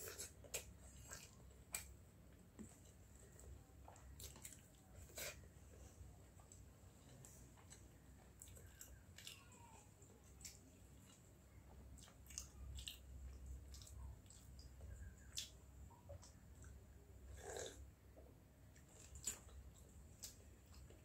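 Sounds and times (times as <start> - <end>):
wet squishing of rice: 0.0 - 17.7, 18.7 - 21.0
faint chewing: 0.0 - 21.0.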